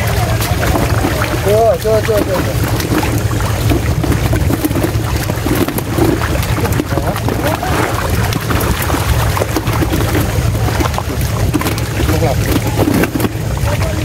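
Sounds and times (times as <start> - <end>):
fish splashing in water: 0.0 - 14.0
low rumble: 0.0 - 14.0.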